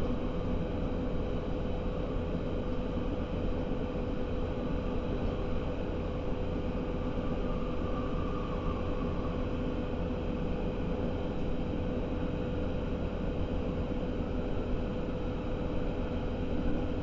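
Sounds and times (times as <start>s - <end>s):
steady train hum: 0.0s - 17.0s.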